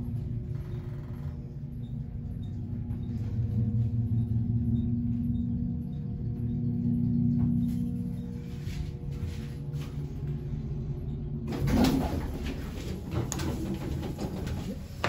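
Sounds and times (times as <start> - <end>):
elevator hum: 0.0 - 15.0.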